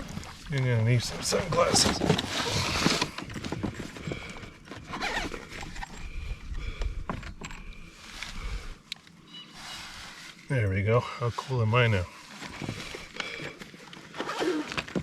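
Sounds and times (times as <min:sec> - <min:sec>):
rustling of gear: 0:00.0 - 0:10.5, 0:11.3 - 0:15.0.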